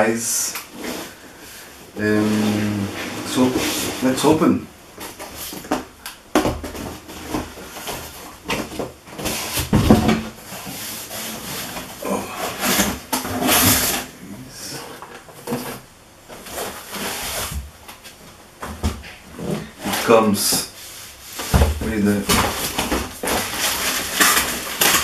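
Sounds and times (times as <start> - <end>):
cardboard flaps scraping: 0.7 - 4.4, 5.0 - 25.0
plastic wrapping rustling: 2.0 - 25.0.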